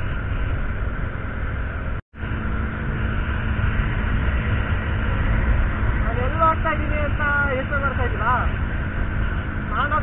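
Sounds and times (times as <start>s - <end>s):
road noise: 0.0s - 10.0s
wind rush on microphone: 0.0s - 10.0s.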